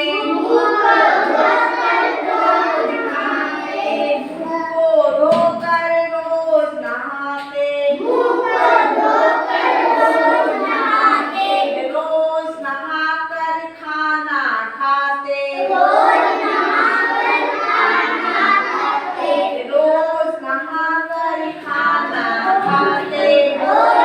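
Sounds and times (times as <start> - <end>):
children singing: 0.0 - 5.5, 7.7 - 12.7, 15.3 - 24.0.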